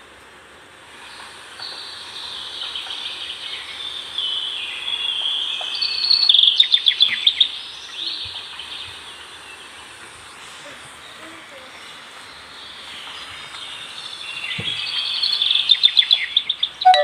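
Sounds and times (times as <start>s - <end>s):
birdsong trills: 0.9s - 17.0s.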